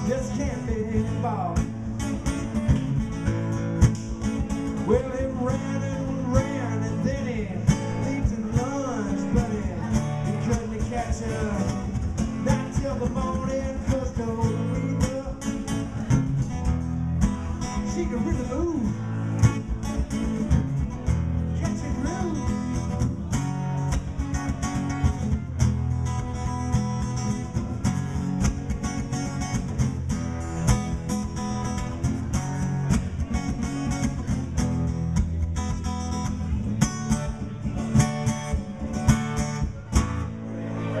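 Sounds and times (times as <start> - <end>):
acoustic guitars strumming chords: 0.0 - 41.0.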